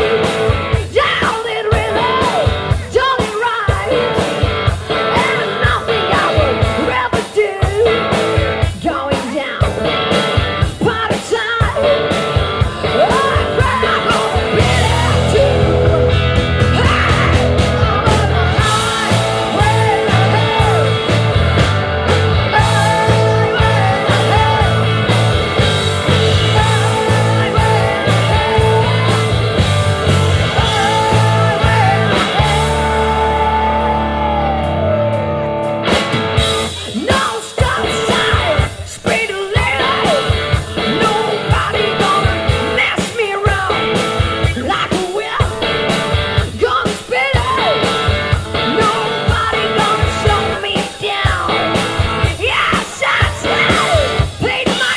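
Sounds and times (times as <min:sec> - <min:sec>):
lead singer: 0:00.0 - 0:54.9
rock band playing live: 0:00.0 - 0:54.9.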